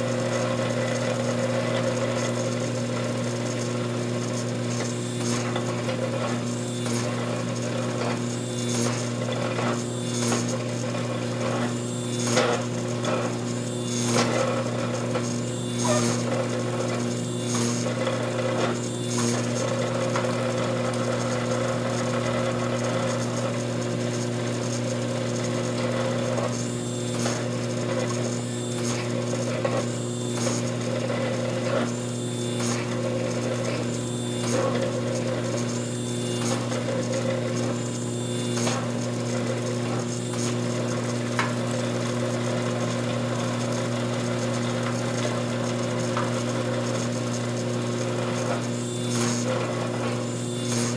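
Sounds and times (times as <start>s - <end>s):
hydraulic pump motor humming: 0.0s - 50.9s.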